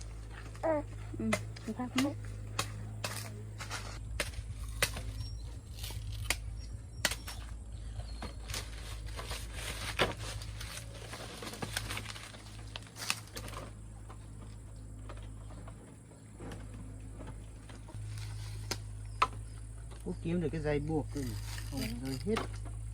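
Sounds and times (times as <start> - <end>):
rustling of stalks and dry leaves: 0.0 - 22.9.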